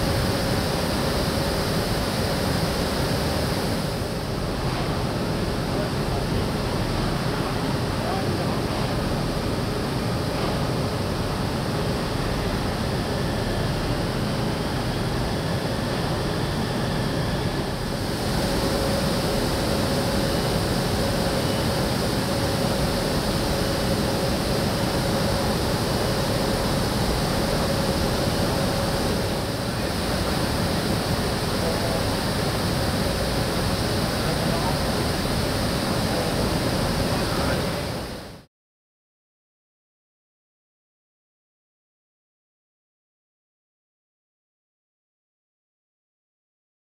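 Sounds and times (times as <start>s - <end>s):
industrial background roar: 0.0s - 38.4s.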